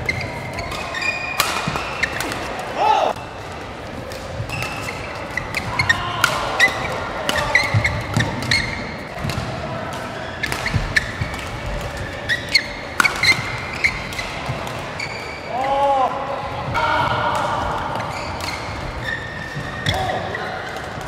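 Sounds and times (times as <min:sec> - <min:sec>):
shoes squeaking on court floor: 0:00.0 - 0:02.7, 0:04.3 - 0:15.8, 0:17.9 - 0:21.0.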